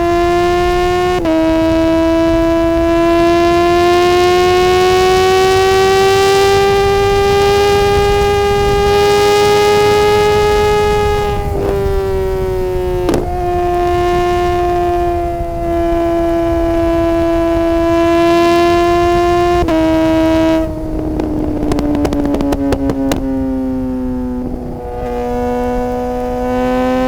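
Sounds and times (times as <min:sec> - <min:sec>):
motorcycle engine howling: 0:00.0 - 0:27.0
wind noise: 0:00.0 - 0:27.0.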